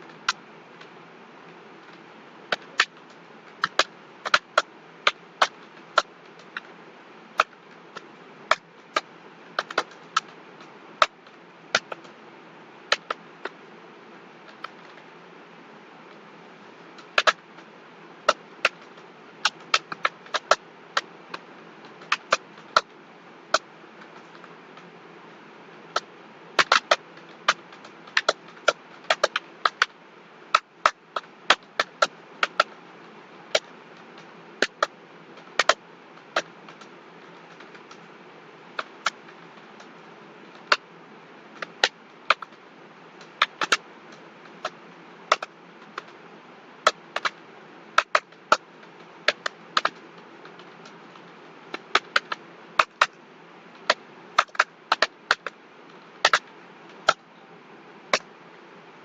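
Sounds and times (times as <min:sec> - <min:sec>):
low background hiss: 0:00.0 - 0:59.0.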